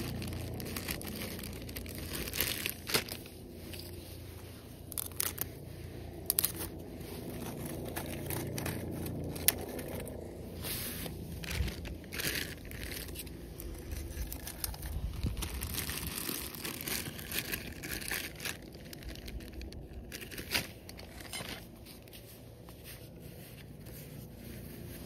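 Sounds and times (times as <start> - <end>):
material rustling and crinkling: 0.0 - 25.0.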